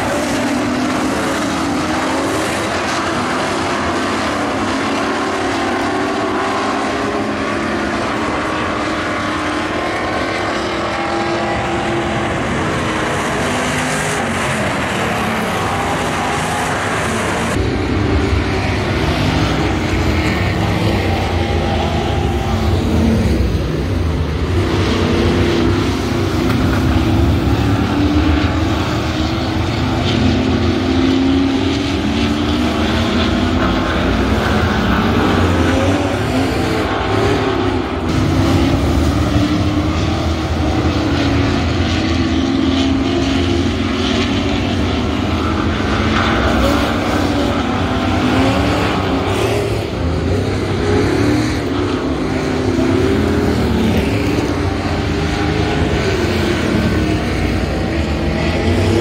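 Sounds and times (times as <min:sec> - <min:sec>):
racing truck engines: 0:00.0 - 0:59.0.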